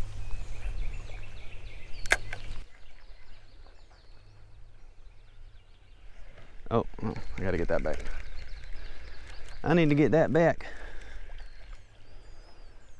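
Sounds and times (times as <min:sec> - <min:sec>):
faint bird chirps: 0:00.0 - 0:12.9.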